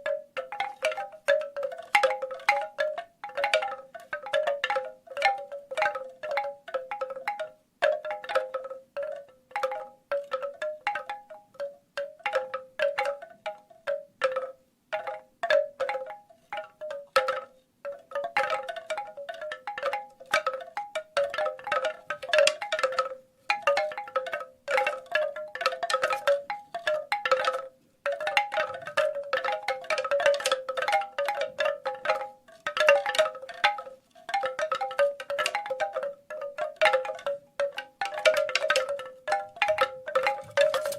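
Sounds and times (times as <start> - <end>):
bamboo wind chimes clacking: 0.0 - 40.9.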